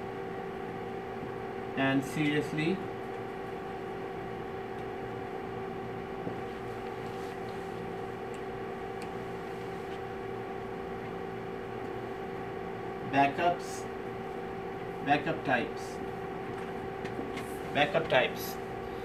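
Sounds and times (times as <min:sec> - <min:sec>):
room hum with constant tone: 0:00.0 - 0:19.0.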